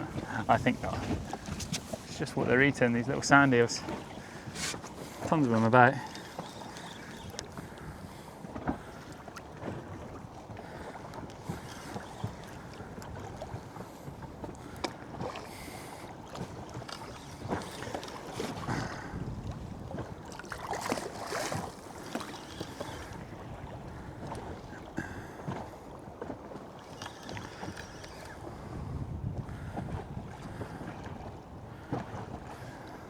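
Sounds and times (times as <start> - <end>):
water around boat: 0.0 - 33.0
wind: 0.0 - 33.0.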